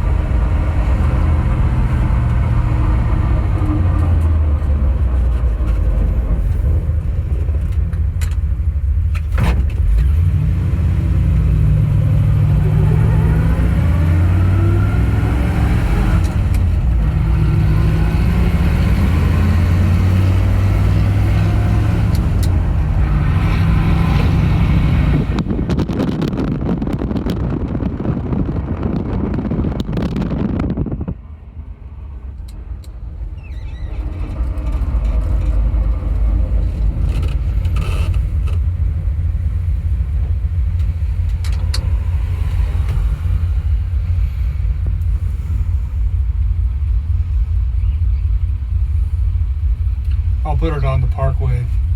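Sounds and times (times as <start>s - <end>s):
truck engine droning: 0.0s - 51.9s.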